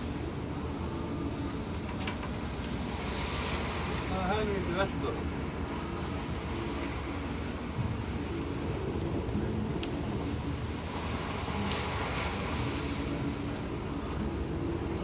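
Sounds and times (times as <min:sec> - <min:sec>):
rough sea water rushing: 0:00.0 - 0:15.0.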